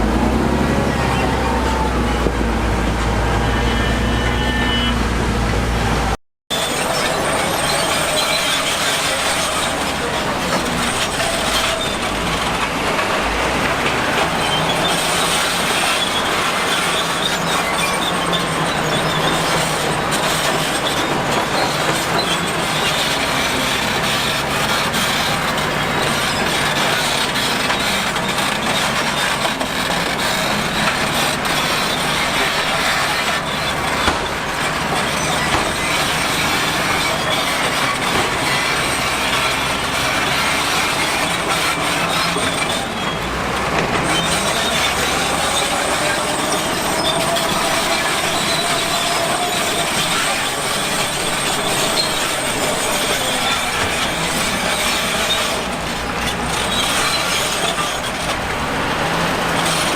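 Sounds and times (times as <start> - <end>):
diesel engine humming: 0.0 - 59.9
steel tracks clattering and squealing: 0.0 - 59.9.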